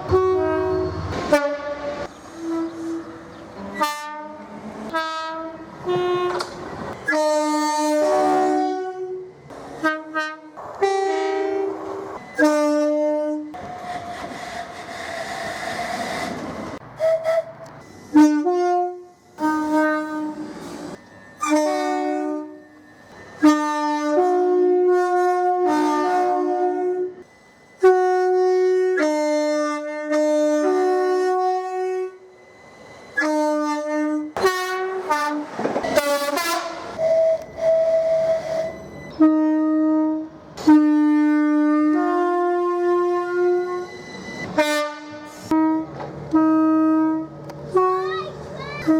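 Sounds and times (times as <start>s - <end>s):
train horn blasts: 0.0s - 13.6s, 17.0s - 20.6s, 21.4s - 22.7s, 23.4s - 32.4s, 33.1s - 48.9s
rushing train: 0.0s - 48.9s.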